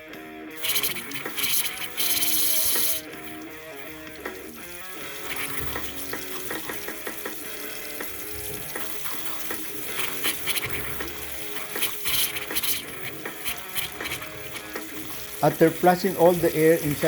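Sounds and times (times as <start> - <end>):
background music: 0.0 - 17.0
faucet sputtering and spitting air: 0.4 - 17.0.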